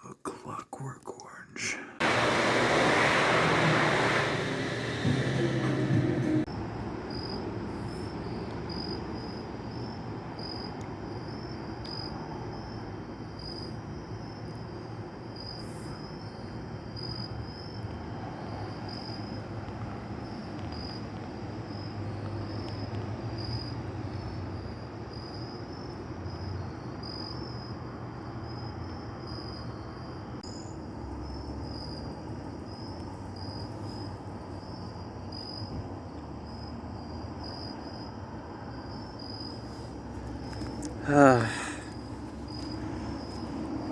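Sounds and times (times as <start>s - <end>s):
crickets chirping: 6.4s - 43.9s.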